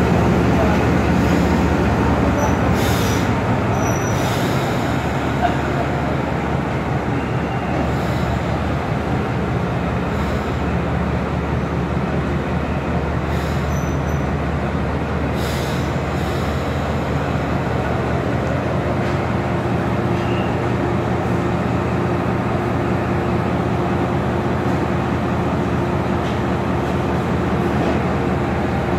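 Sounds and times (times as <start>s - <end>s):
locomotive engine droning: 0.0s - 28.9s.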